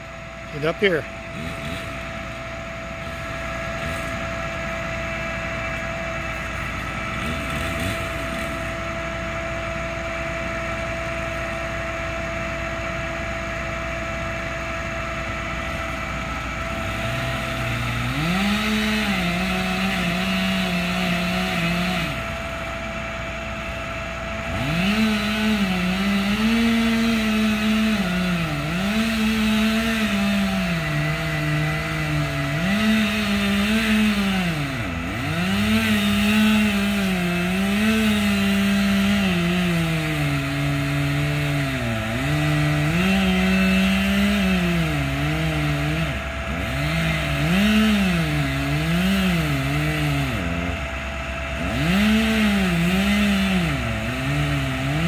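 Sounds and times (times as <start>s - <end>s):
chainsaw running at high speed: 0.0s - 55.0s
steady mechanical hum: 0.0s - 55.0s.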